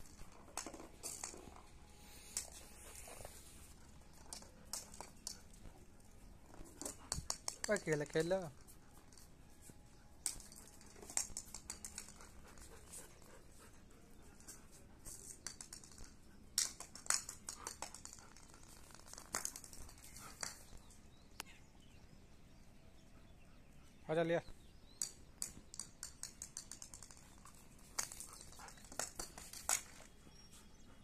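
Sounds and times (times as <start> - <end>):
ball scraping and tapping on concrete: 0.0 - 21.5, 24.8 - 30.3.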